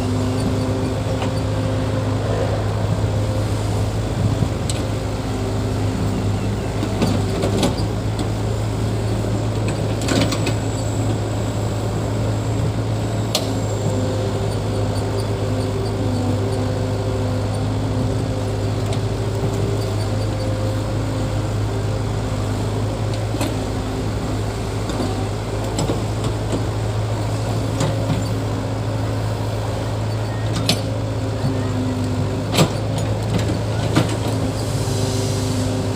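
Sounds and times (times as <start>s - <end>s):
diesel engine running steadily: 0.0s - 35.9s.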